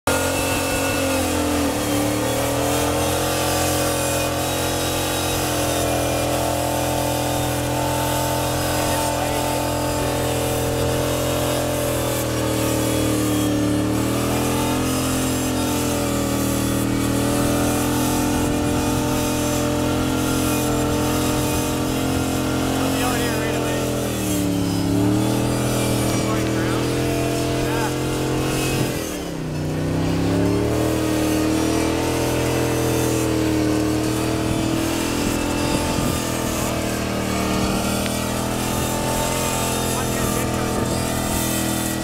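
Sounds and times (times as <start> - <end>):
buggy engine at high revs: 0.0 - 42.0
tyres churning through snow: 0.0 - 42.0.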